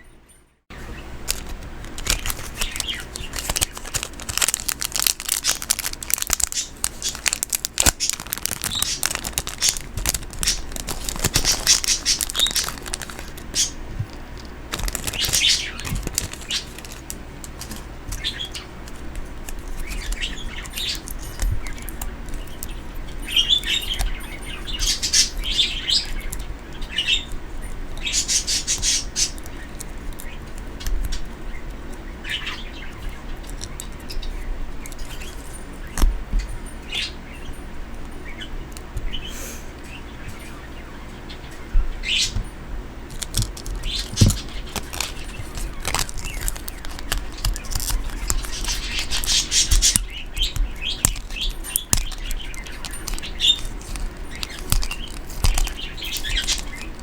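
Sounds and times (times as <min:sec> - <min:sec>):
bird chirping: 0:00.0 - 0:42.6, 0:43.3 - 0:57.0
clicks and rustles of handling: 0:00.7 - 0:37.1, 0:37.7 - 0:40.6, 0:42.3 - 0:57.0.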